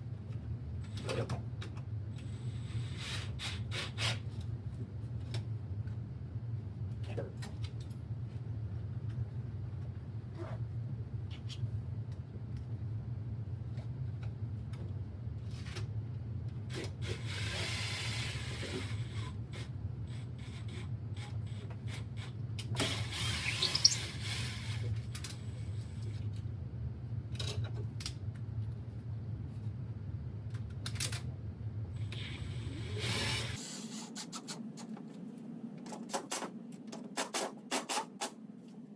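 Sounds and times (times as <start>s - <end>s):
steady low hum: 4.2s - 37.2s.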